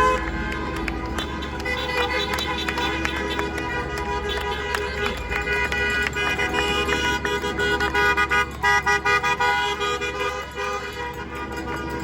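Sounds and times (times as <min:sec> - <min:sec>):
car horns honking: 0:00.0 - 0:12.0.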